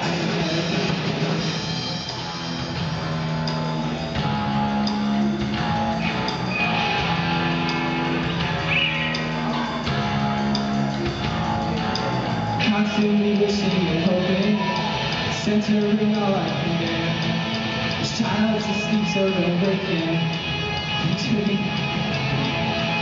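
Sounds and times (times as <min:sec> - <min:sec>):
rock band playing instrumental: 0:00.0 - 0:23.0.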